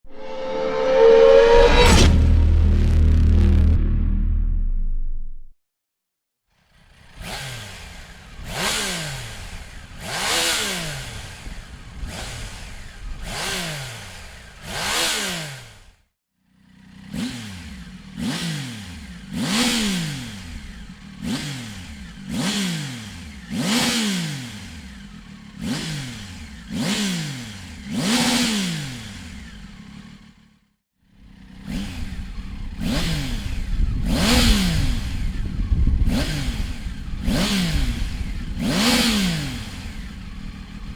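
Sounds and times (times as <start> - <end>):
motorcycle engine revving: 0.0 - 4.6, 6.6 - 40.9.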